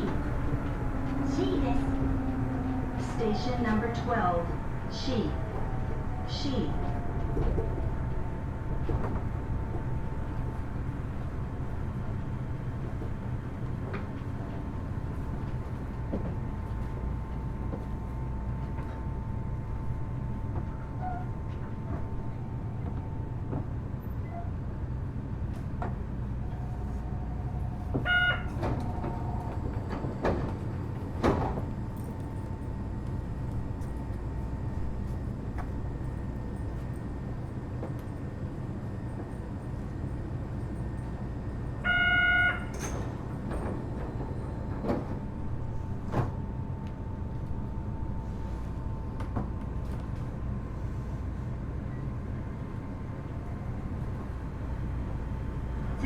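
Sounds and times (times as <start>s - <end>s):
low train running rumble: 0.0s - 56.0s.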